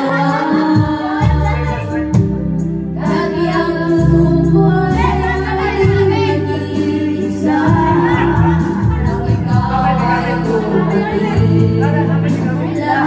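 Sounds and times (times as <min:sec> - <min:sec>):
woman singing karaoke: 0:00.0 - 0:02.4, 0:03.0 - 0:13.0
backing track with bass line: 0:00.0 - 0:13.0.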